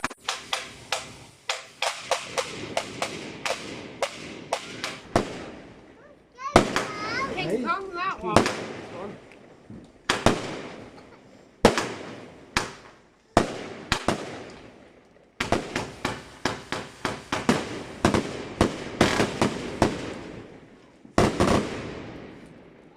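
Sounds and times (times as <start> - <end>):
firework bangs: 0.0 - 22.9.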